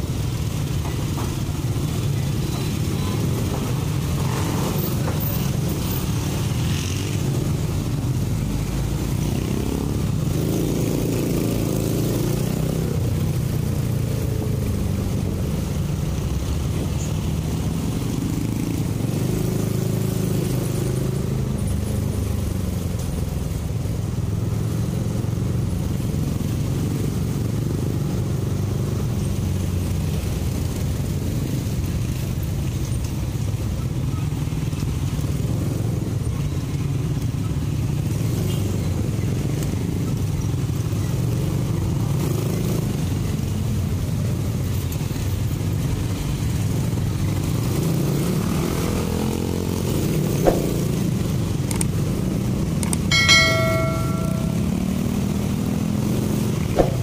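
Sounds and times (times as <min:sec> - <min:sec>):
road drone: 0:00.0 - 0:57.0.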